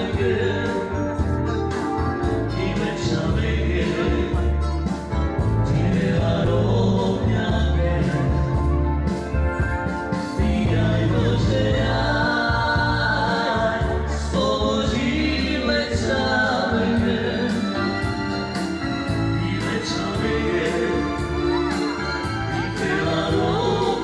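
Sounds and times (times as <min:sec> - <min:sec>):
man singing: 0:00.0 - 0:09.2, 0:09.9 - 0:24.0
electronic keyboards: 0:00.0 - 0:24.0.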